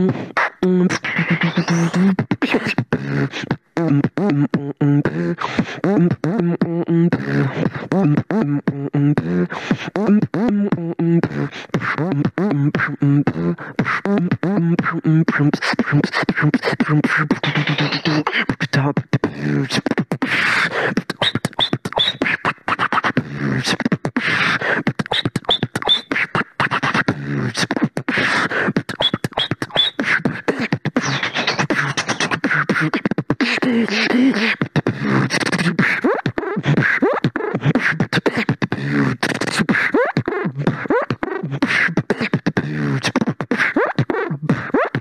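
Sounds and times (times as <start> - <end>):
person beatboxing: 0.0 - 45.0.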